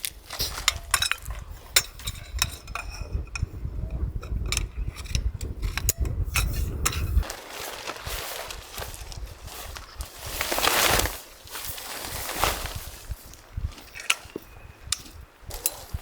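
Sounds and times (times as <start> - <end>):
camping gear clicking and clinking: 0.0 - 16.0
wind buffeting microphone: 0.0 - 16.0.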